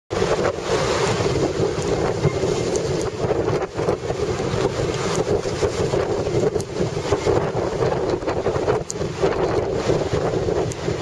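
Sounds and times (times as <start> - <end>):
wind buffeting microphone: 0.1 - 11.0.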